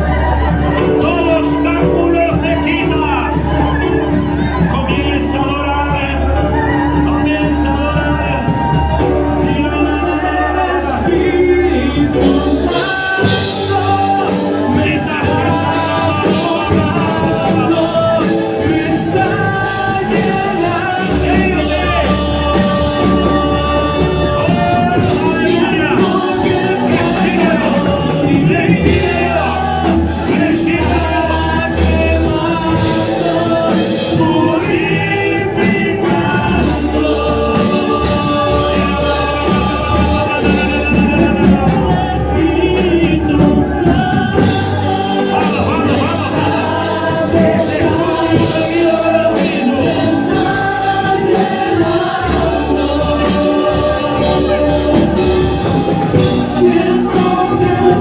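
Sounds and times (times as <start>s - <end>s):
band with bass and percussion: 0.0s - 58.0s
voices singing gospel: 0.0s - 58.0s.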